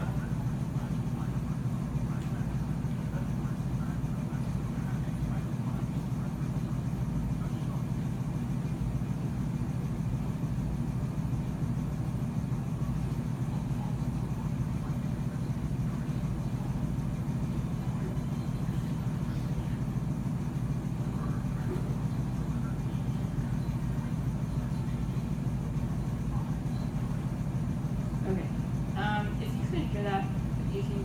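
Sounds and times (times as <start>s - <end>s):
low room noise rumble: 0.0s - 31.0s.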